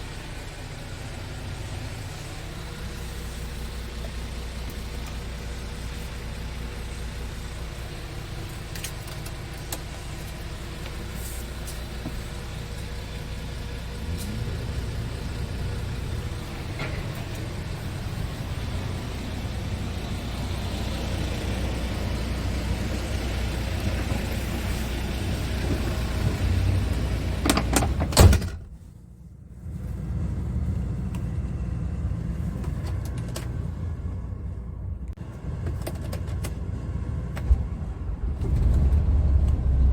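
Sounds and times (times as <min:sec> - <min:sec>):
diesel engine idling: 0:00.0 - 0:35.6, 0:36.6 - 0:39.9.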